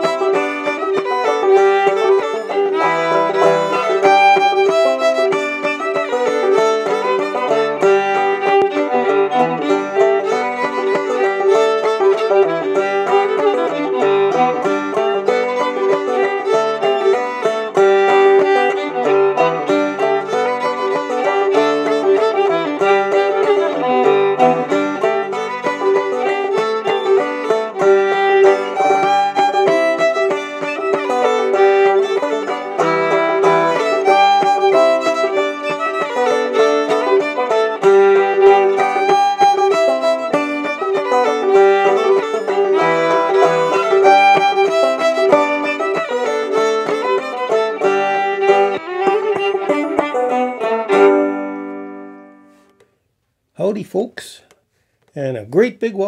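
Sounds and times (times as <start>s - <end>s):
banjo playing: 0.0s - 52.8s
fiddle playing: 0.0s - 52.9s.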